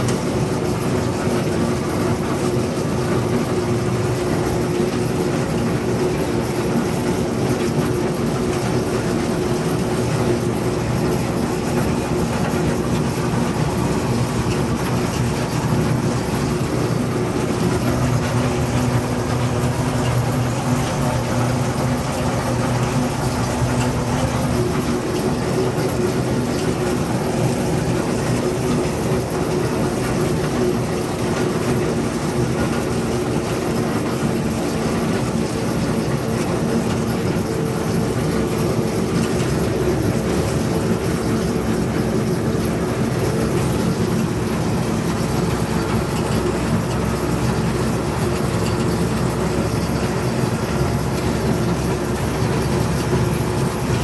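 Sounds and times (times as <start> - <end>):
locomotive engine running: 0.0 - 54.0
train wheels rumbling on rail: 0.0 - 54.0
wheels clickety-clack: 0.0 - 54.0.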